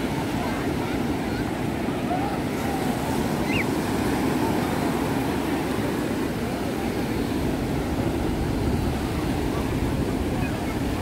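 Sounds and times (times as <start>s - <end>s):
waves breaking: 0.0s - 11.0s
wind rumbling on microphone: 0.0s - 11.0s.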